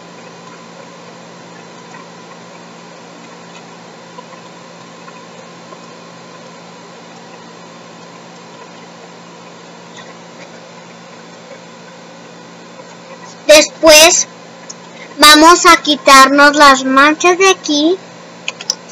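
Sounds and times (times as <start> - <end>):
low electrical hum: 0.0 - 18.9.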